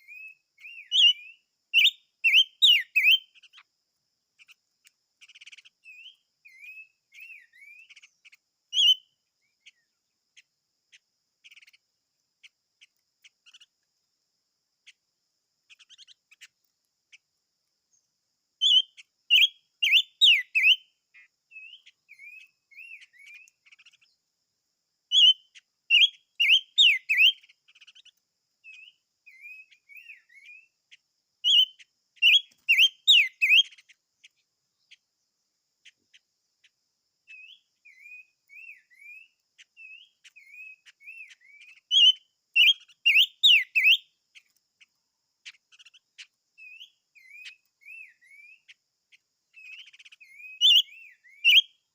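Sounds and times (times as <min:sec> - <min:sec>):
songbird whistling song: 0:00.0 - 0:03.7, 0:04.4 - 0:13.9, 0:15.6 - 0:24.2, 0:25.0 - 0:51.9
soft bird chirps: 0:00.0 - 0:51.9.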